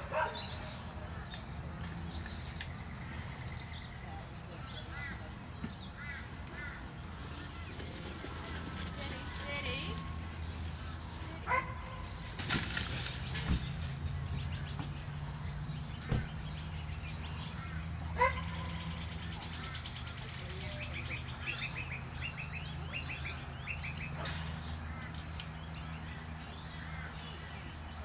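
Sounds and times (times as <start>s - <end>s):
small birds trilling: 0.0s - 28.0s.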